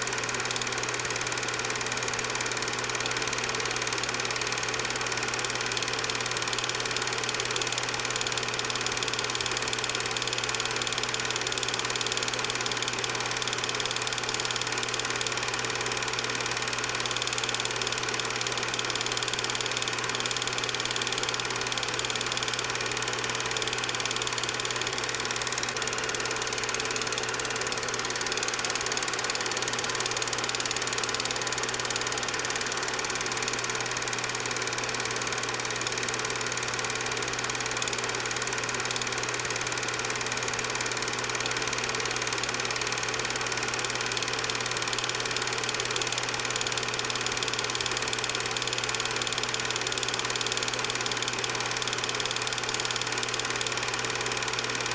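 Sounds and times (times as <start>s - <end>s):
film projector motor whirring: 0.0s - 54.9s.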